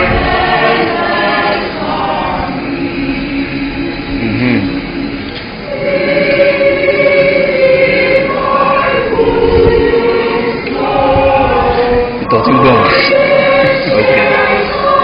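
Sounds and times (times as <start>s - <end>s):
church choir singing: 0.0s - 15.0s.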